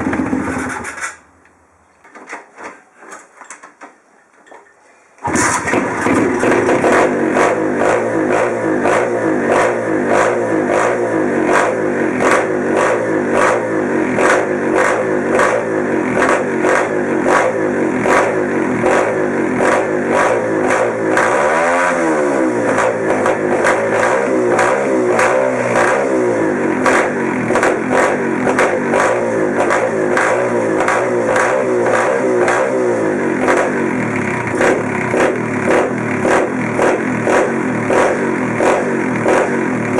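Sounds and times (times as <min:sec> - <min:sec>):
motorbike engine running: 0:00.0 - 0:01.1, 0:05.2 - 0:39.9.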